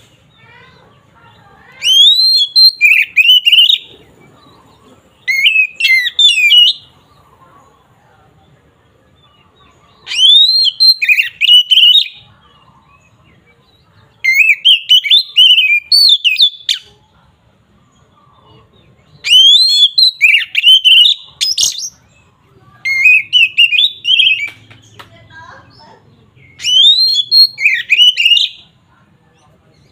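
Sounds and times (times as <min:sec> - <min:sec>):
magpie-robin singing: 0:00.0 - 0:29.9.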